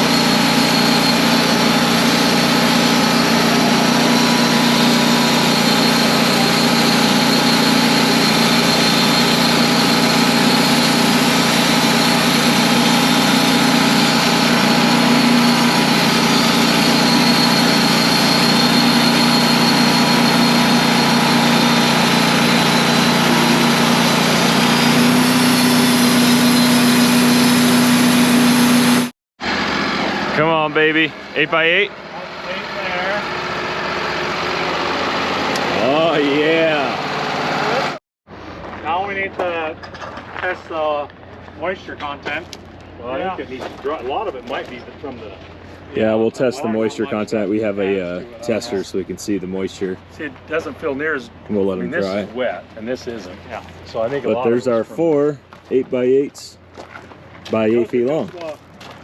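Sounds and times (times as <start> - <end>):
band sawmill milling a log: 0.0 - 38.0, 43.3 - 59.0.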